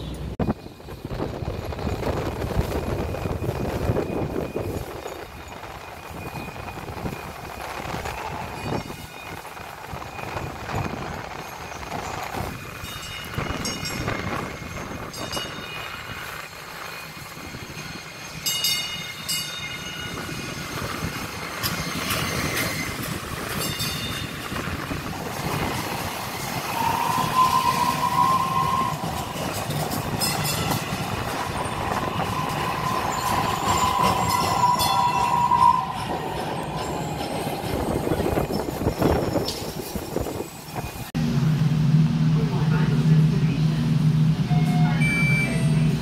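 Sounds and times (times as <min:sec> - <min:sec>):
light rail train running: 0:00.0 - 0:46.0
high wheel squeal: 0:03.2 - 0:41.1.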